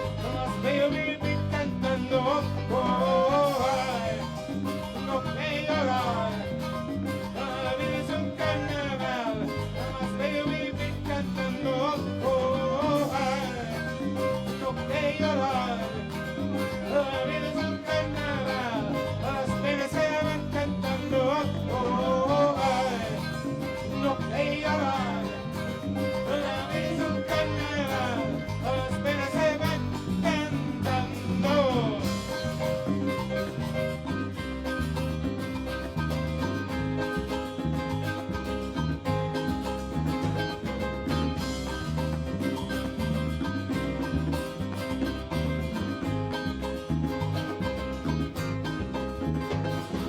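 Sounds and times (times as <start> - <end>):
live salsa band playing: 0.0 - 50.0.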